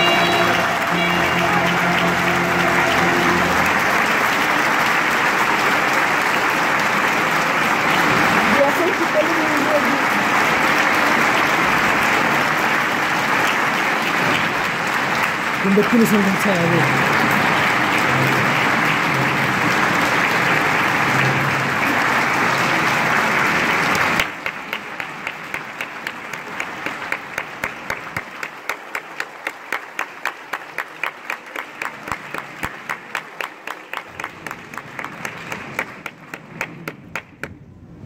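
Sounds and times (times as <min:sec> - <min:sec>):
rhythmic clapping: 0:00.0 - 0:37.6
crowd applauding: 0:00.0 - 0:38.0.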